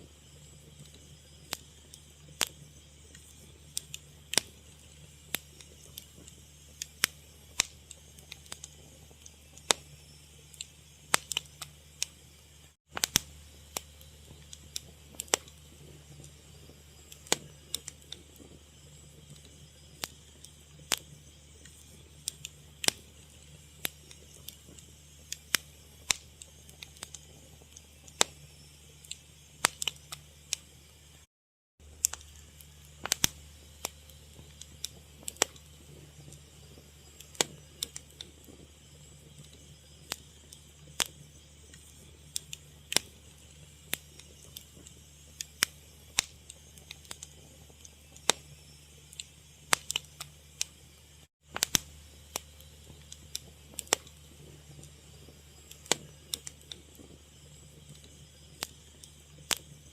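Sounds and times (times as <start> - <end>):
low steady hum: 0.0 - 59.9
wood fire crackling: 0.0 - 59.9.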